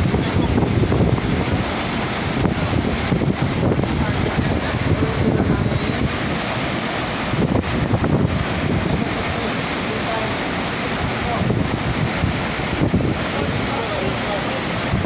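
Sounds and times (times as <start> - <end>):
water rushing: 0.0 - 15.0
wind buffeting microphone: 0.0 - 15.0.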